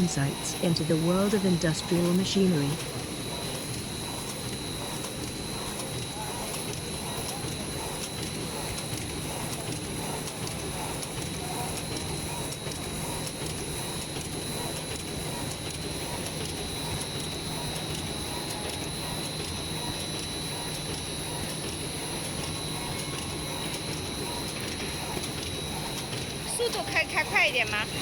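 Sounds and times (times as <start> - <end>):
high constant whines: 0.0 - 28.0
machine humming: 0.0 - 28.0.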